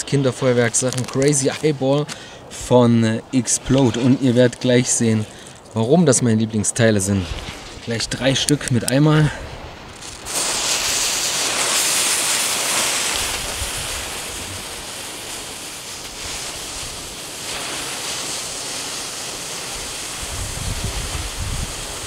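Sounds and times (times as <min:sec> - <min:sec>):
fireworks hissing as they burn: 0:00.0 - 0:05.8, 0:07.1 - 0:22.0.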